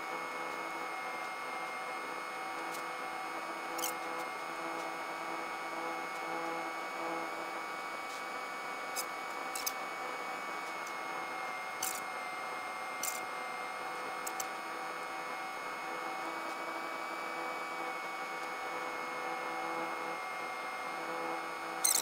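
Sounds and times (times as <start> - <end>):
high electrical whine: 0.0 - 22.0.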